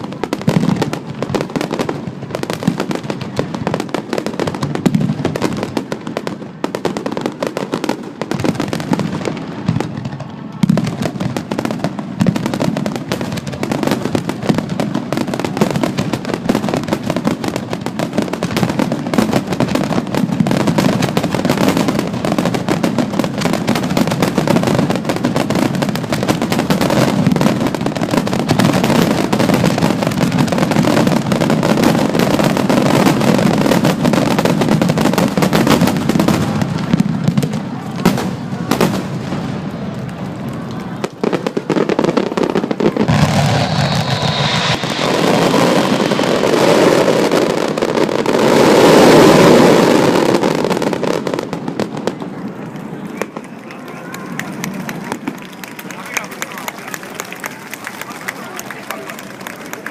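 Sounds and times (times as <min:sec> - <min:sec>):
fireworks bursts and crackling: 0:00.0 - 0:59.9.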